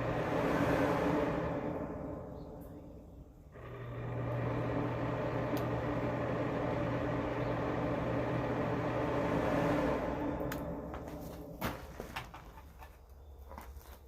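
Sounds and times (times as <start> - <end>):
small electric machine humming: 0.0 - 11.5.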